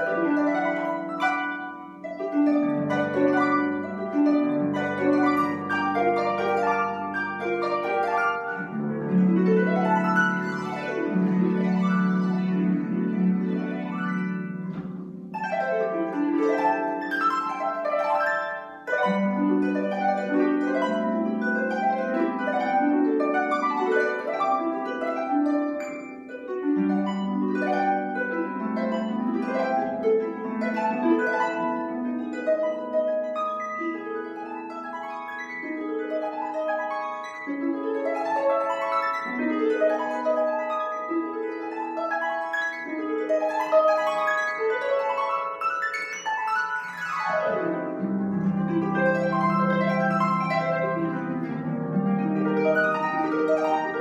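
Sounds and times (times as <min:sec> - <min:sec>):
harp playing: 0:00.0 - 0:54.0.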